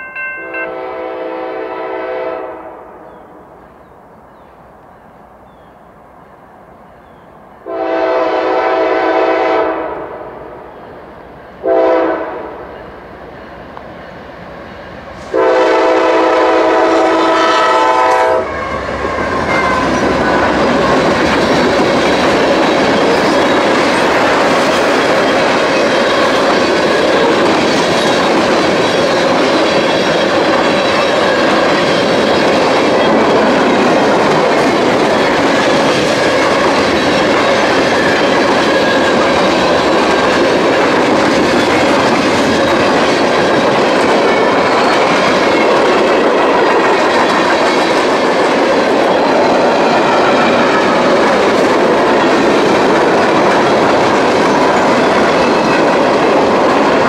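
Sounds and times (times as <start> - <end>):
train wheels running on rails: 7.0 - 57.0.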